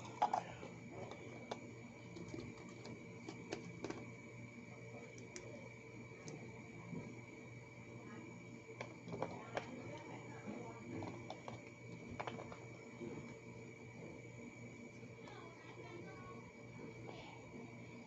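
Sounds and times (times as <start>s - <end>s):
electrical hum: 0.0s - 18.0s
thin high whine: 0.0s - 18.0s.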